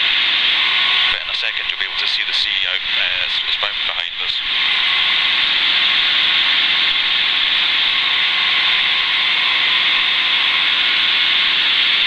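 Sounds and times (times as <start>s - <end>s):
helicopter cabin rushing noise: 0.0s - 12.0s
faint steady hum: 0.1s - 12.0s.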